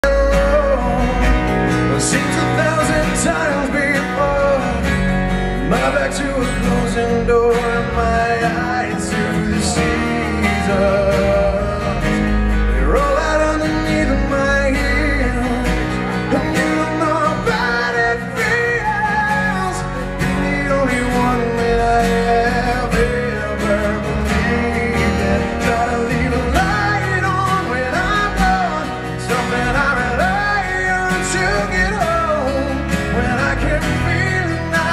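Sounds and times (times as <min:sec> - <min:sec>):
man singing into a microphone: 0:00.0 - 0:34.9
strummed acoustic guitars: 0:00.0 - 0:34.9.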